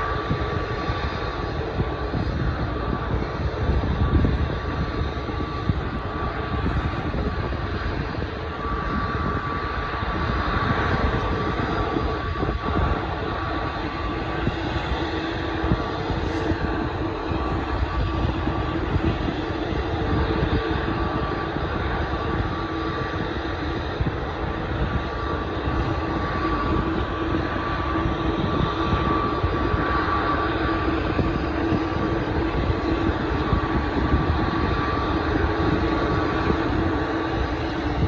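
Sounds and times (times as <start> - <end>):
jet engines running: 0.0 - 38.0.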